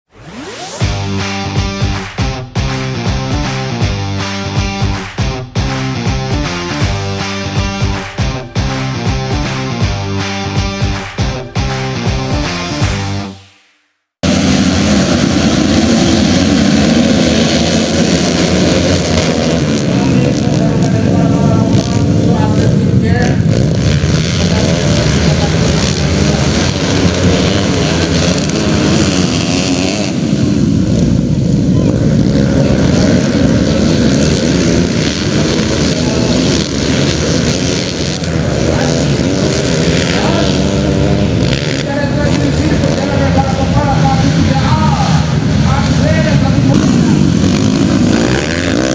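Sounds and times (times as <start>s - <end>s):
rock music: 0.6s - 13.5s, 14.2s - 48.9s
dirt bike engine running: 0.7s - 13.2s, 14.2s - 48.9s.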